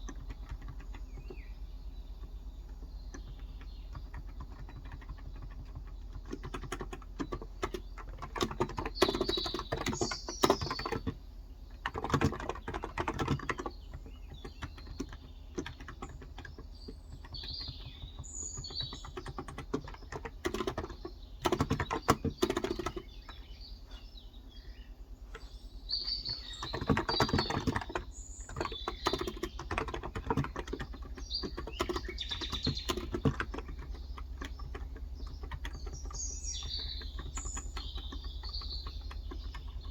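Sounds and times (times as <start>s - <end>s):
typing on keyboard: 0.0s - 23.5s, 26.2s - 39.9s
birds chirping: 0.0s - 39.9s.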